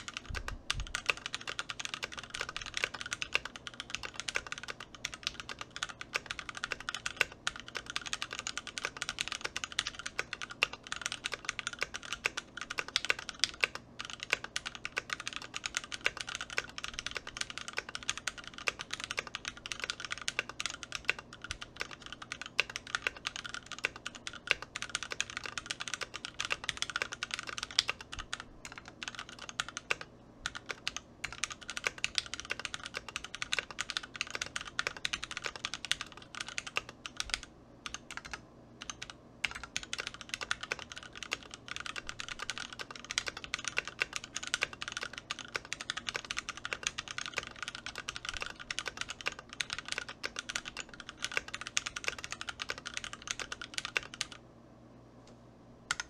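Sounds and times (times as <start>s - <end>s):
mechanical keyboard typing: 0.0s - 54.4s.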